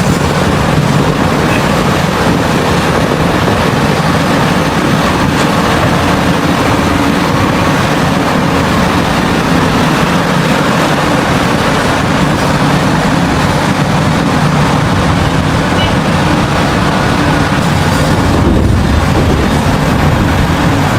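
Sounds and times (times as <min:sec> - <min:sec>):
heavy diesel machinery rumble: 0:00.0 - 0:20.9.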